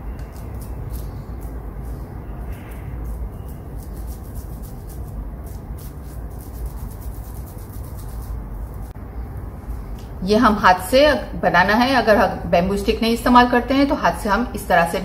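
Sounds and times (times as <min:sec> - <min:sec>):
steady low rumble: 0:00.0 - 0:12.6.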